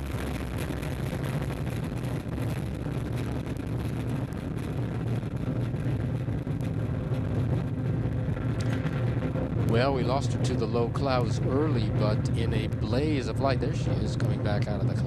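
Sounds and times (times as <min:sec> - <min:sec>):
rocket engine roaring: 0:00.0 - 0:15.0.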